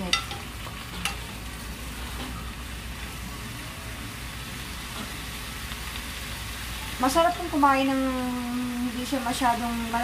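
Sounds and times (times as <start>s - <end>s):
zucchini sizzling in a frying pan: 0.0s - 10.0s.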